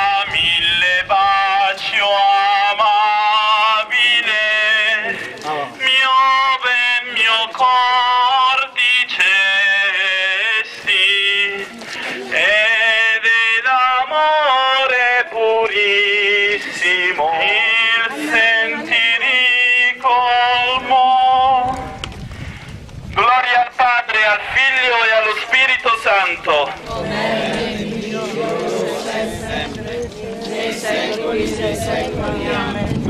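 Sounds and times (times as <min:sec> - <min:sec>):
man singing hymn over loudspeaker: 0:00.0 - 0:22.1, 0:23.2 - 0:33.0.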